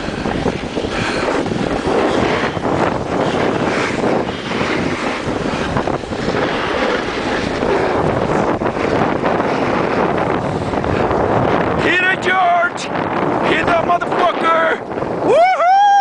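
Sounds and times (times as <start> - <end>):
skis scraping on snow: 0.0 - 15.1
wind on microphone: 0.0 - 16.0.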